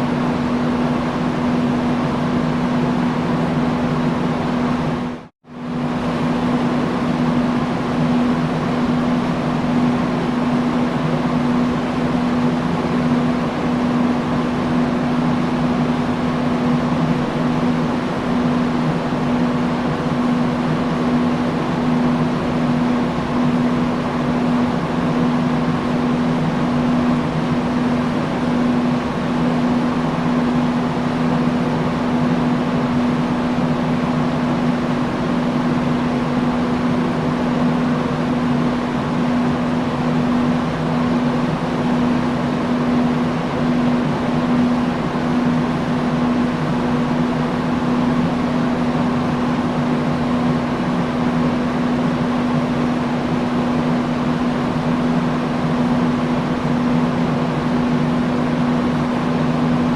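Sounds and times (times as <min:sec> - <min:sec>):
industrial fan running: 0:00.0 - 0:59.9.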